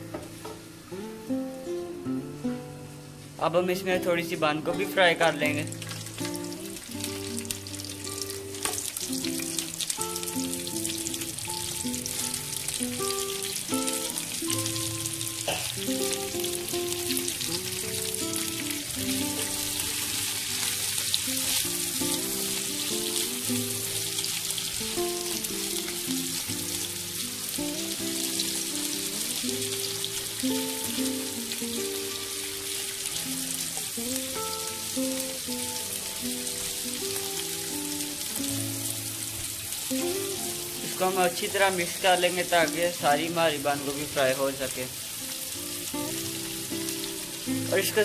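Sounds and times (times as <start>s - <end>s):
background music with held notes: 0.0s - 48.0s
cabbage sizzling in oil: 0.0s - 48.0s.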